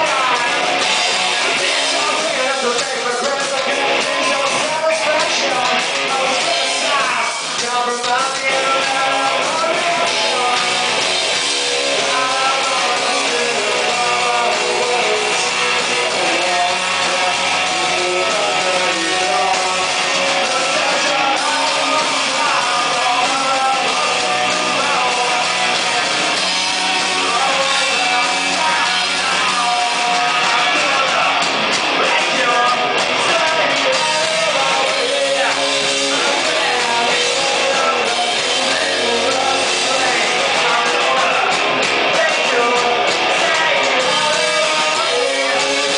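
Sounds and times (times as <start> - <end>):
drums: 0.0 - 45.9
electric guitars: 0.0 - 45.9
lead singer singing: 0.0 - 45.9.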